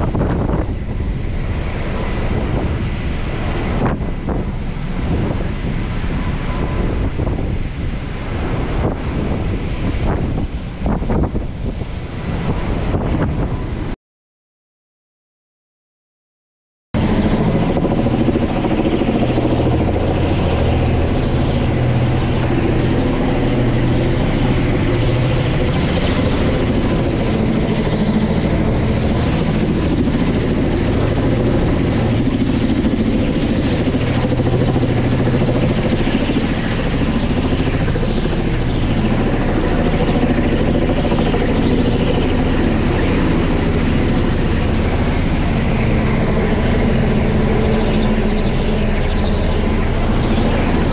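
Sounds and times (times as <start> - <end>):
helicopter flying overhead: 0.0 - 14.0, 17.0 - 50.9.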